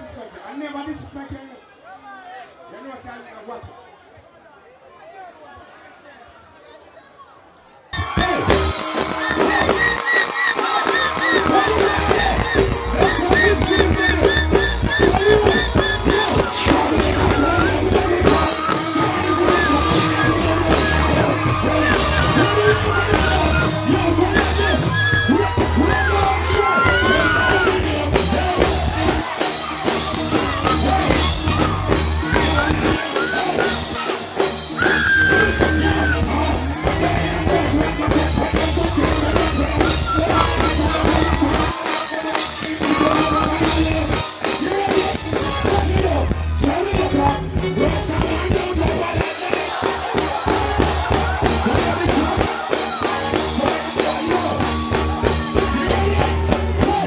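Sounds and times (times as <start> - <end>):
crowd noise: 0.0 - 57.0
live band playing: 8.0 - 57.0
person singing and shouting: 8.0 - 57.0.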